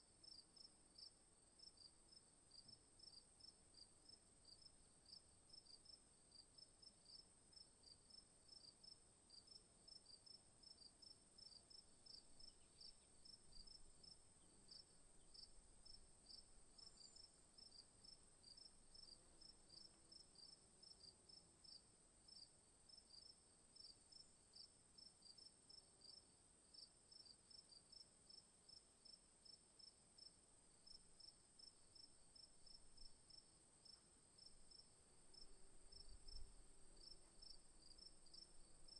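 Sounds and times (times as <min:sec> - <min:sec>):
faint crickets chirping: 0:00.0 - 0:38.9.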